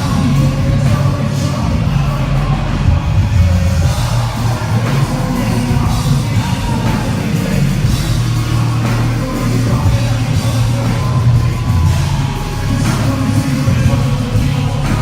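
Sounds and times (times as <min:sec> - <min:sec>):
live rock music: 0:00.0 - 0:15.0.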